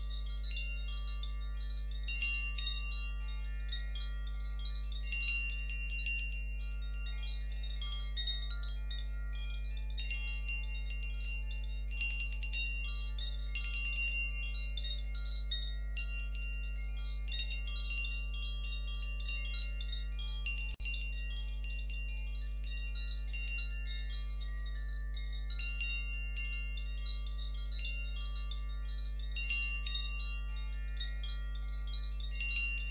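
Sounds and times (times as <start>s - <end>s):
wind chimes tinkling: 0.0s - 32.9s.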